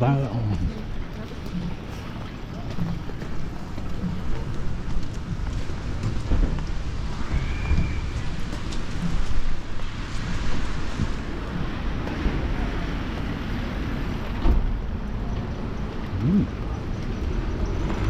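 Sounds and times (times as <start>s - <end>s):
heavy rain on wet street: 0.0s - 18.0s
traffic passing: 0.0s - 18.0s.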